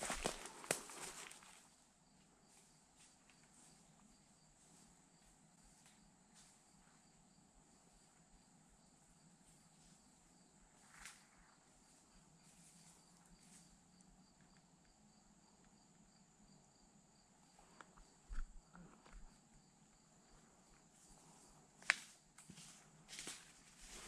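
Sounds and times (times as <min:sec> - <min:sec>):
insects trilling: 0:00.0 - 0:24.0
pulsing insect chirp: 0:00.0 - 0:24.0.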